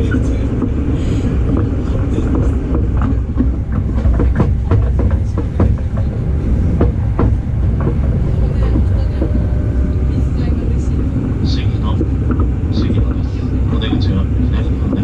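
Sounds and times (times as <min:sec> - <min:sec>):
train rumbling: 0:00.0 - 0:15.0
wheels clicking on rails: 0:00.0 - 0:15.0.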